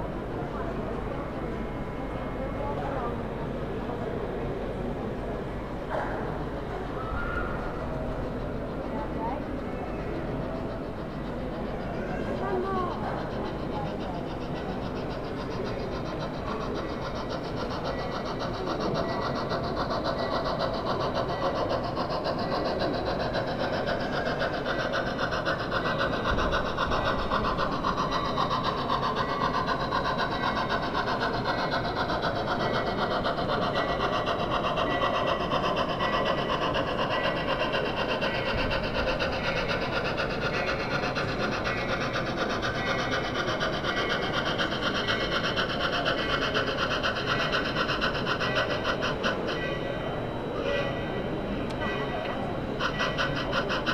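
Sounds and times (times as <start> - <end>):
model train whirring: 0.0 - 53.9.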